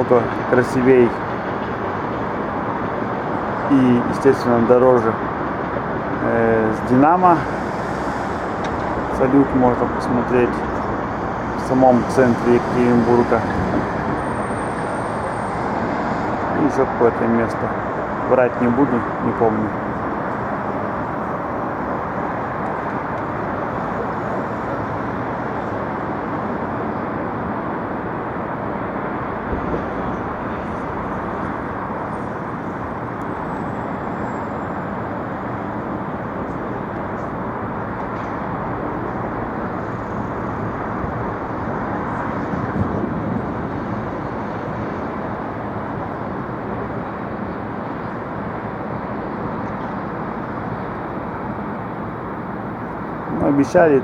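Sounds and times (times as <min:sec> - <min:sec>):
traffic hum: 0:00.0 - 0:54.0.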